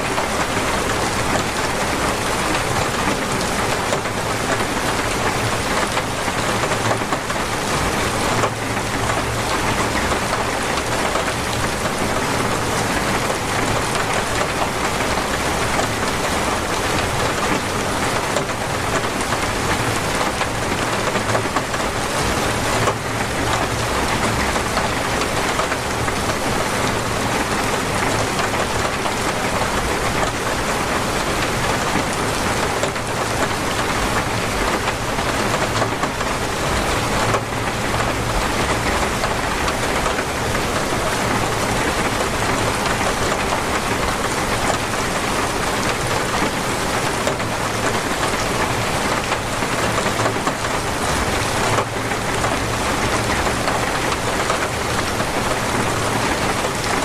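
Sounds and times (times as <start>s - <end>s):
torrential rain pouring: 0.0s - 57.0s.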